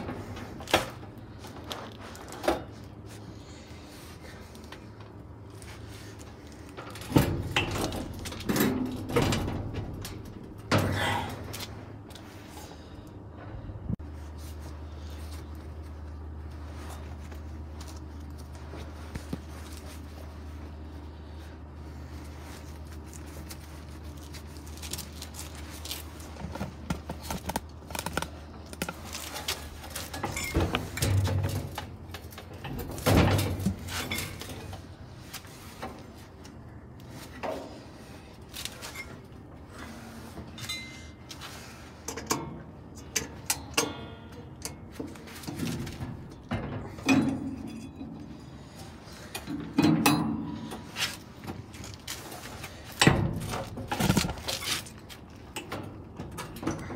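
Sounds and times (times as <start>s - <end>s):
metal clanks and rattles: 0.0s - 3.6s, 4.6s - 13.9s, 21.9s - 56.9s
steady low hum: 0.0s - 56.9s.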